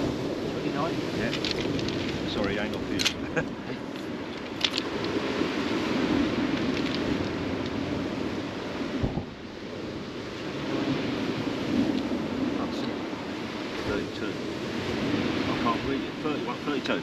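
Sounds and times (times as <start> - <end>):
surf on shingle beach: 0.0 - 17.0
wind: 0.0 - 17.0
wind gust thumping microphone: 0.0 - 17.0.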